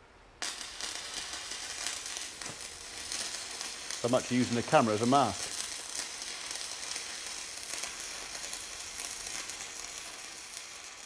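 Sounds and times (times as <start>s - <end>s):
arc welding crackling sizzle: 0.4s - 11.0s.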